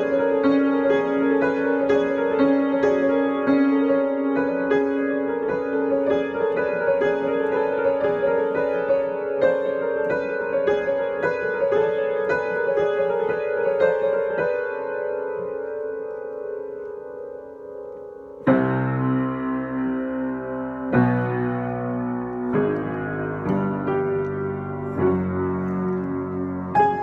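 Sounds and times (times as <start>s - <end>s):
spooky piano improvisation: 0.0s - 27.0s.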